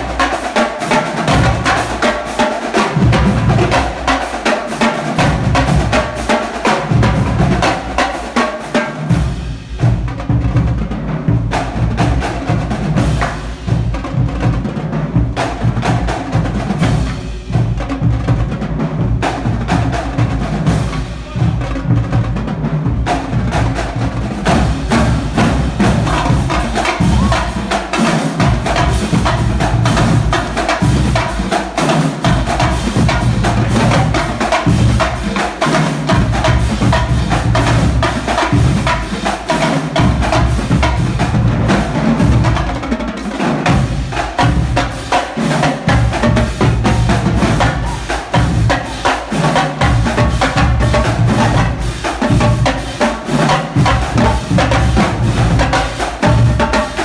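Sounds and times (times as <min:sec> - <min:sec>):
cymbals: 0:00.0 - 0:57.0
tenor and snare drums: 0:00.0 - 0:57.0.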